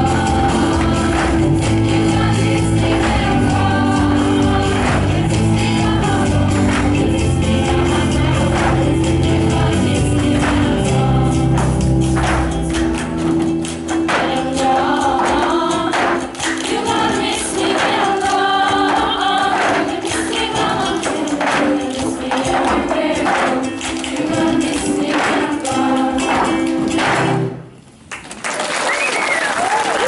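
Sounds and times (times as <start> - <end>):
band backing with percussion: 0.0 - 27.6
group of voices singing: 0.0 - 27.6.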